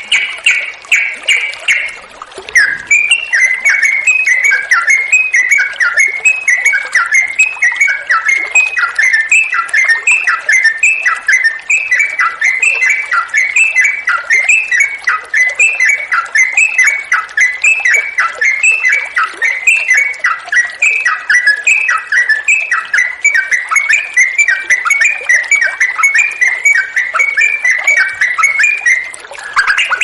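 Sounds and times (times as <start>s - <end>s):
bulbul singing bubbling whistles: 0.0s - 30.0s.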